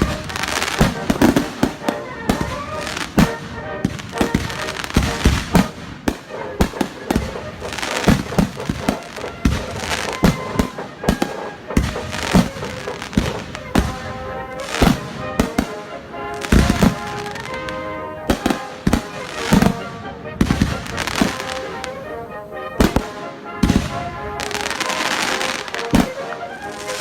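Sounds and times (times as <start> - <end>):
fireworks bangs and booms: 0.0 - 27.0
music: 0.0 - 27.0.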